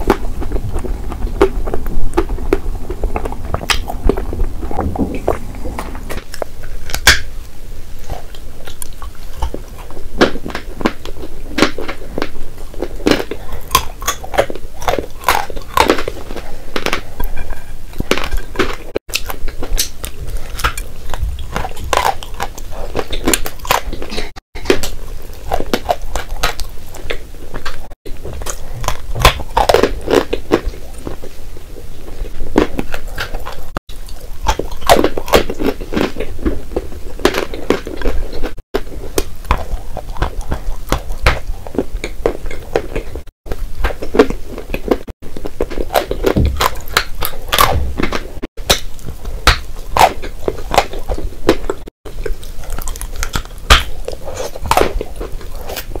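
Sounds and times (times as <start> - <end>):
chalk crunching being chewed: 0.0 - 56.0.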